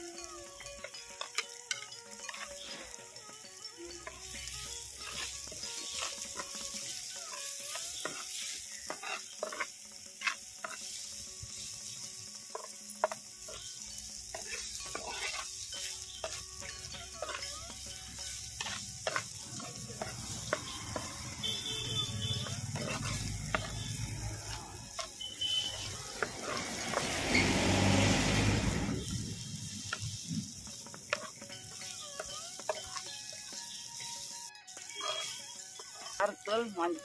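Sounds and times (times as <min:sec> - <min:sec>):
food sizzling in oil: 0:00.0 - 0:37.0
metal spoon scraping pot: 0:00.8 - 0:02.9, 0:04.0 - 0:11.0, 0:12.5 - 0:27.6, 0:29.9 - 0:33.8, 0:34.8 - 0:36.4.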